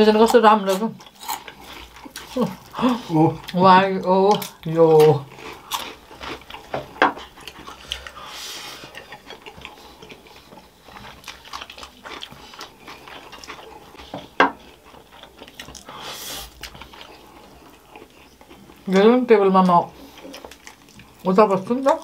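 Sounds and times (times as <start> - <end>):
crunchy snack being chewed: 0.2 - 3.6, 4.3 - 8.2, 8.8 - 18.9, 20.0 - 22.0.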